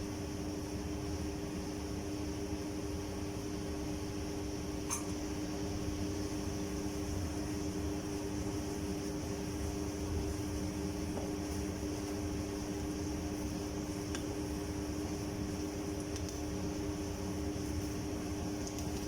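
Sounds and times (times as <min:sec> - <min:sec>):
exhaust fan hum: 0:00.0 - 0:19.0
pot of water boiling: 0:00.0 - 0:19.0.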